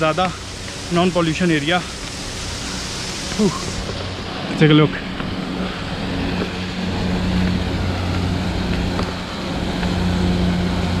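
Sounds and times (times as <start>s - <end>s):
low hum: 0.0s - 11.0s
water running over stones: 0.0s - 11.0s
waterfall rushing: 0.0s - 11.0s.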